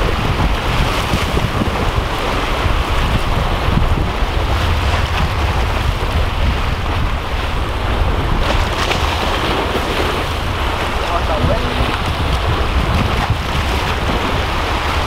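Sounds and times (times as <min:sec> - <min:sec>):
surf breaking against rocks: 0:00.0 - 0:15.0
wind buffeting microphone: 0:00.0 - 0:15.0.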